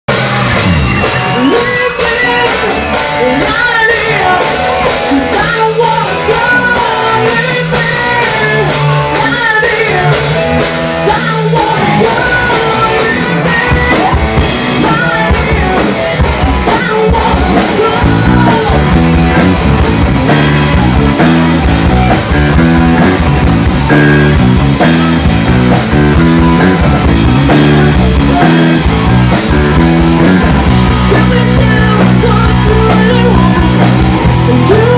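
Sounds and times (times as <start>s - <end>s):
live rock band playing: 0.1s - 34.9s.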